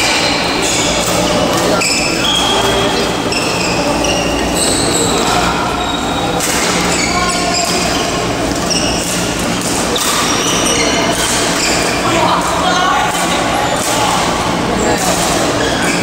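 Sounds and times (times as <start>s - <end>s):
shoes squeaking on court: 0.1s - 12.1s, 14.8s - 16.0s.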